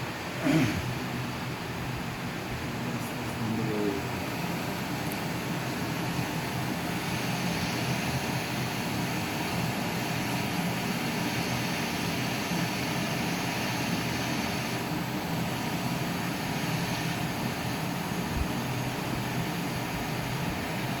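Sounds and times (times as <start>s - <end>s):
mechanical drone with low hum: 0.0s - 21.0s.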